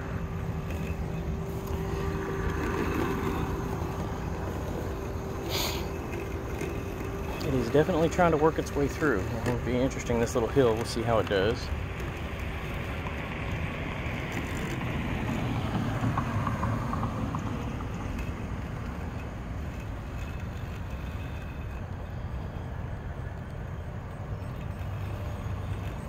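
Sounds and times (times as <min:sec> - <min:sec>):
robotic lawn mower cutting grass: 0:00.0 - 0:26.0
steady low rumble: 0:00.0 - 0:26.0.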